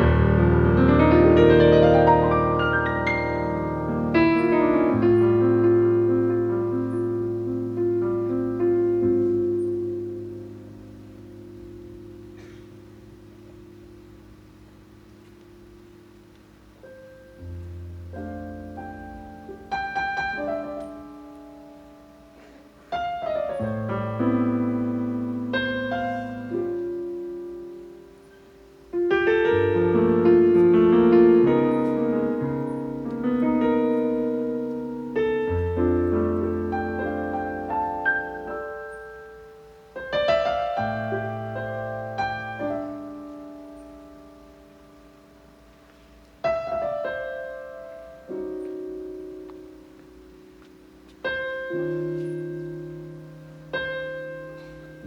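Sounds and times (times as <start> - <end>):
slow solo piano chords: 0.0 - 55.0.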